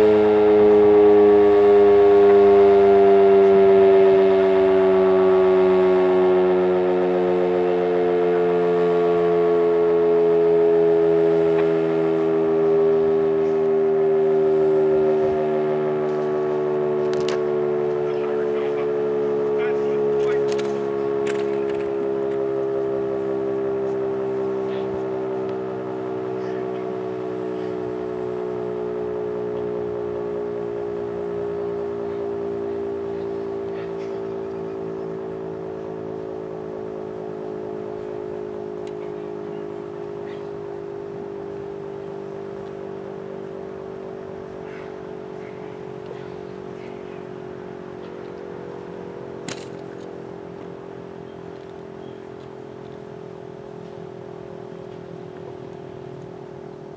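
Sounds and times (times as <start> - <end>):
tornado siren wailing: 0.0 - 56.9.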